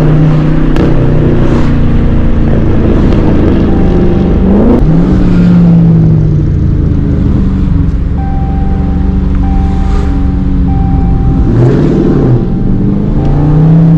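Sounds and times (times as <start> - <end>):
car engine revving: 0.0 - 13.9.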